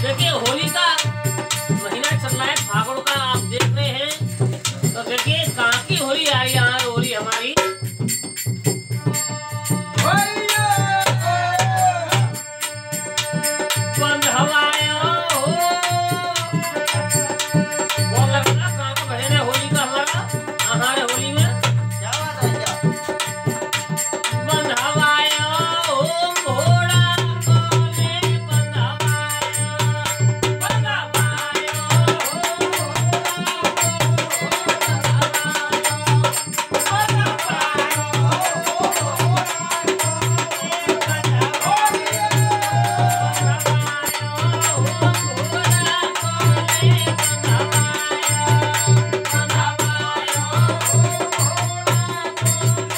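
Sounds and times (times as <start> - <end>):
dholak drum beating: 0.0 - 52.9
man singing: 0.0 - 52.9.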